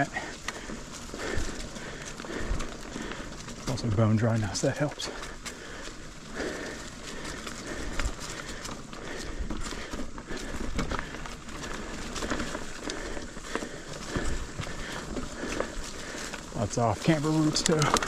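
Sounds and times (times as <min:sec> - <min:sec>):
bike rattling over roots: 0:00.0 - 0:18.0
bike tyres on dirt: 0:00.0 - 0:18.0.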